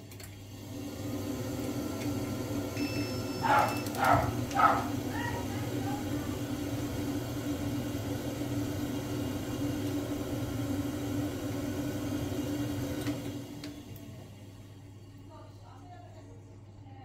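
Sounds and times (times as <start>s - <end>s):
boiler humming: 0.0s - 17.0s.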